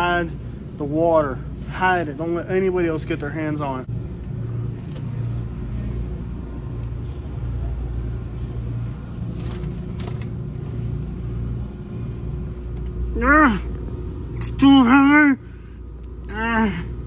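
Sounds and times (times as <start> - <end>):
low rumble with faint hum: 0.0 - 17.0.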